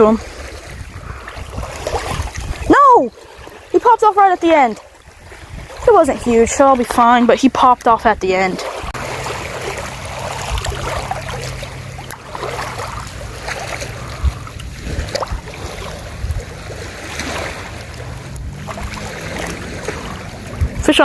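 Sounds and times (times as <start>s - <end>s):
low steady hum: 0.0s - 21.0s
small waves lapping on rocks: 0.0s - 21.0s
wind on microphone: 0.0s - 21.0s.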